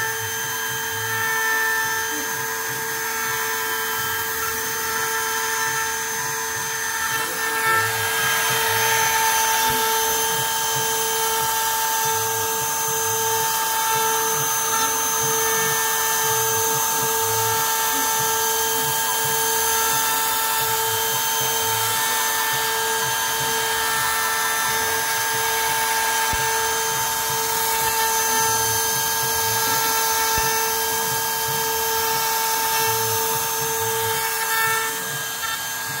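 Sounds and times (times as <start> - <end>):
router bit carving wood: 0.0 - 36.0.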